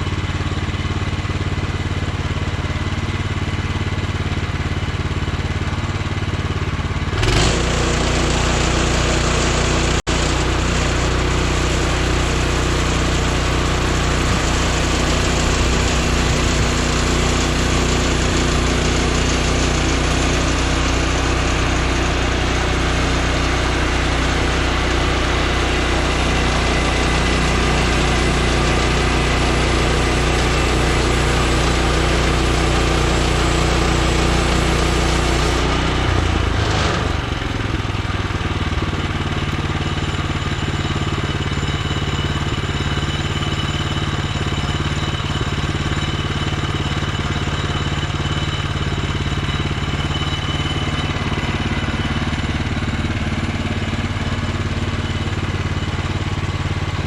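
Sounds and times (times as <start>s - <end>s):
sawmill gas engine running: 0.0s - 57.0s.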